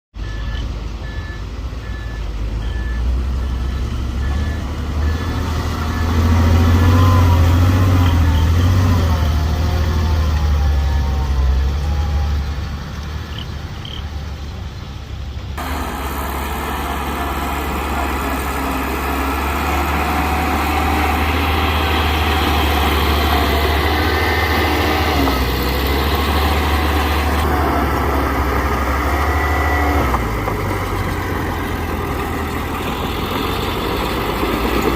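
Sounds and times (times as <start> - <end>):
diesel engines of earthmoving machines: 0.1 - 34.9.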